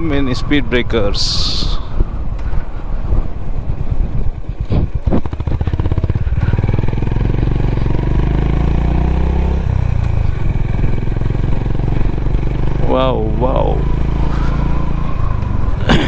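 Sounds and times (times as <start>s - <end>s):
motorcycle engine running: 1.7s - 16.0s.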